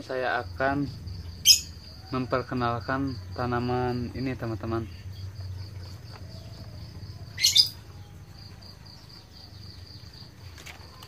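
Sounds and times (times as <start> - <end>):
bird chirp: 0.0 - 11.0
insects chirring: 0.0 - 11.0.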